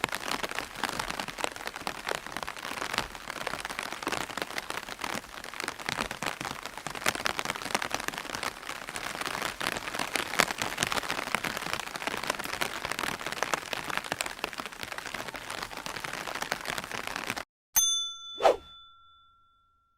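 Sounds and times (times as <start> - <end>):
rain pattering on umbrella: 0.0 - 17.4.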